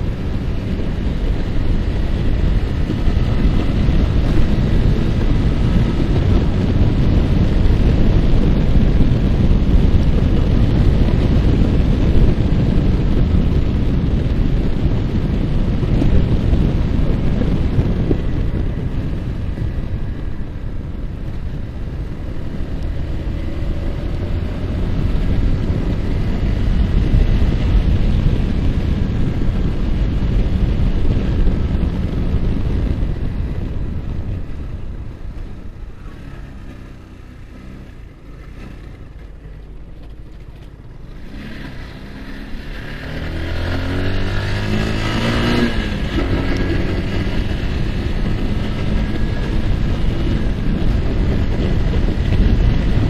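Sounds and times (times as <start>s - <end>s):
motorcycle engine running at speed: 0.0s - 53.0s
wind buffeting microphone: 0.0s - 53.0s.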